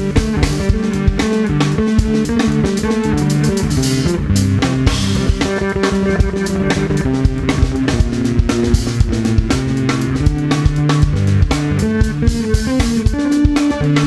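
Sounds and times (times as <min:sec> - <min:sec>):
bass guitar: 0:00.0 - 0:14.0
drum kit beat: 0:00.0 - 0:14.0.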